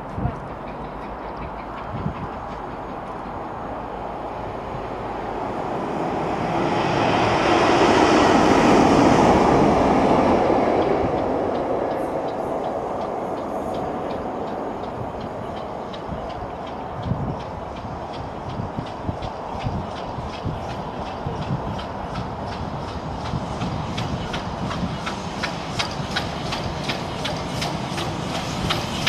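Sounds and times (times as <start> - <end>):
train rushing past: 0.0 - 29.0.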